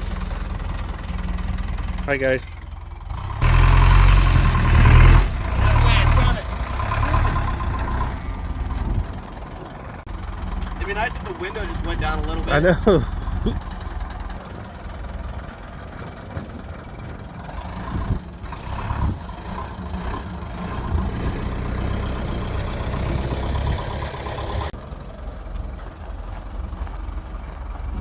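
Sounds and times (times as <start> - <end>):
engine knocks: 0.0 - 28.0
truck engine idling: 0.0 - 28.0.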